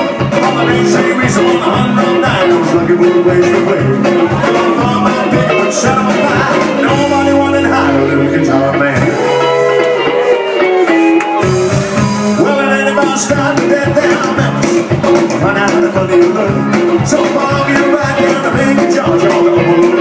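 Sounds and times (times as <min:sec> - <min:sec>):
man singing: 0:00.0 - 0:09.5, 0:12.3 - 0:20.0
live band playing: 0:00.0 - 0:20.0
plucked bass notes: 0:00.0 - 0:20.0.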